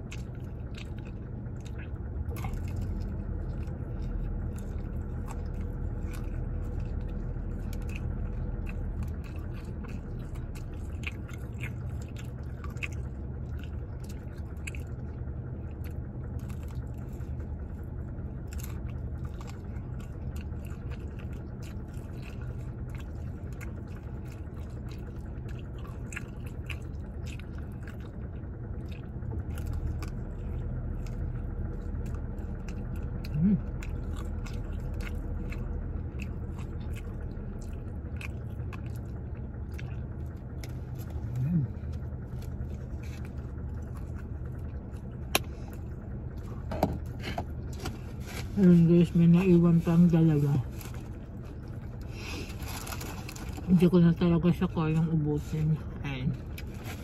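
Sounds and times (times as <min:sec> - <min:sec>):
person chewing crunchy food: 0:00.0 - 0:48.7, 0:49.3 - 0:57.0
steady low hum: 0:00.0 - 0:57.0.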